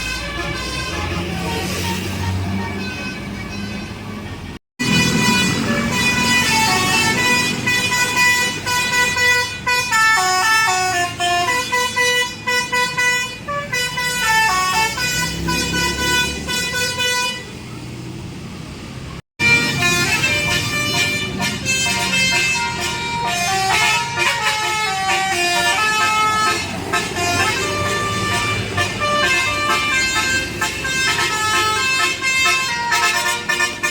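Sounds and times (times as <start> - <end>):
bus musical horn tune: 0.0 - 17.6, 19.4 - 33.9.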